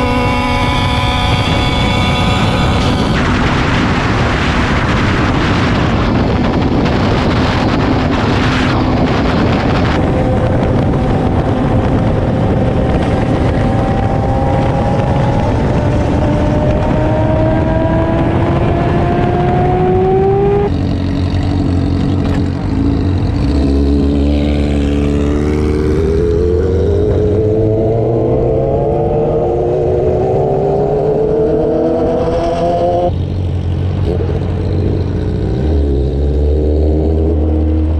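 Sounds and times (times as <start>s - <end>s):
motorcycle engine revving: 0.0s - 37.9s
wind noise on microphone: 0.0s - 37.9s.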